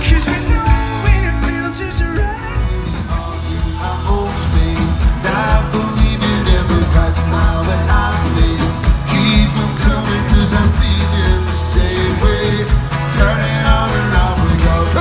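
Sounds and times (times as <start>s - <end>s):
accordion: 0.0s - 15.0s
acoustic guitar: 0.0s - 15.0s
bass: 0.0s - 15.0s
drum beat: 0.0s - 15.0s
electric guitar: 0.0s - 15.0s.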